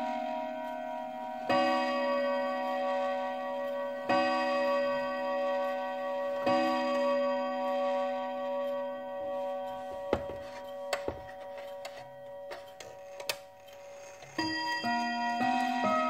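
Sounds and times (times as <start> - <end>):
mantel clock striking: 0.0 - 16.0.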